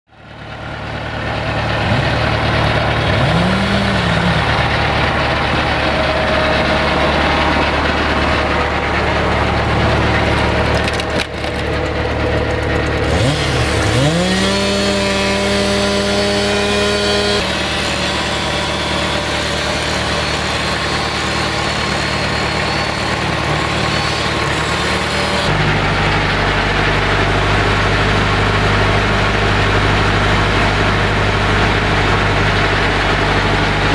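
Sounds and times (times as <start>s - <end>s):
tractor diesel engine revving: 0.1s - 33.9s.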